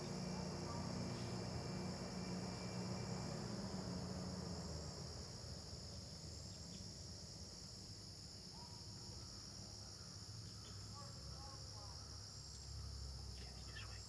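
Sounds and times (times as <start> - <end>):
crickets and insects chirping: 0.0 - 14.0.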